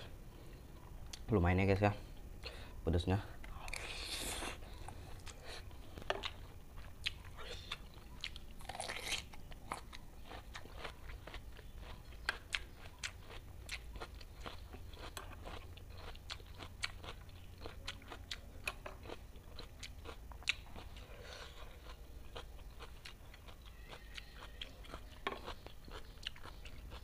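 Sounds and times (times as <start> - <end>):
person chewing raw cucumber: 3.4 - 27.0.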